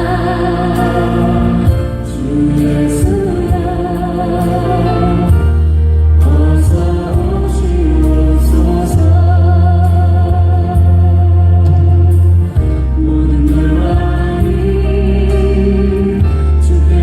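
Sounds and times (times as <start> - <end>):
group singing a hymn: 0.0 - 12.2, 13.0 - 17.0
heavy bass notes: 0.0 - 17.0.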